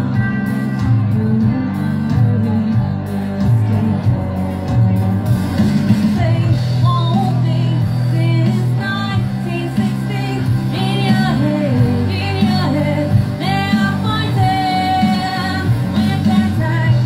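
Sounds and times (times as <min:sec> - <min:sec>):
drums: 0:00.0 - 0:17.0
electric guitar: 0:00.0 - 0:17.0
woman singing: 0:00.0 - 0:17.0.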